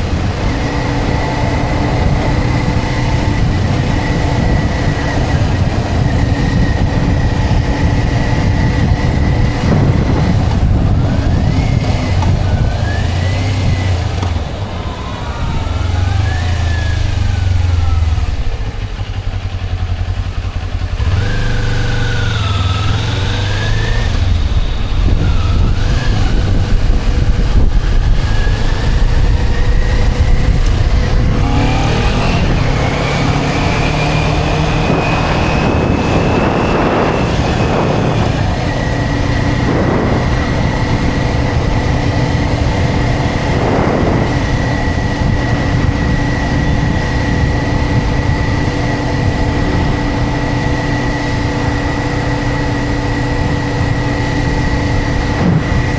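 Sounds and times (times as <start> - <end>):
low rumble: 0.0 - 21.4, 23.8 - 55.9
motorcycle engine rising and falling: 0.0 - 55.9.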